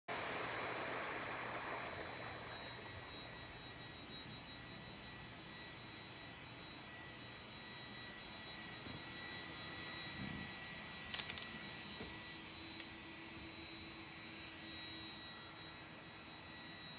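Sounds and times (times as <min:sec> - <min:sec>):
robot vacuum running on carpet: 0:00.1 - 0:16.7.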